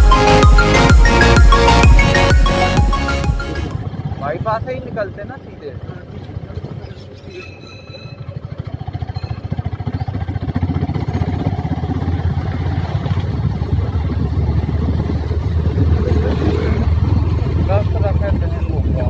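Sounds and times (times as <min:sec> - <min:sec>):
motorcycle engine running: 0:00.0 - 0:07.2, 0:08.0 - 0:19.0.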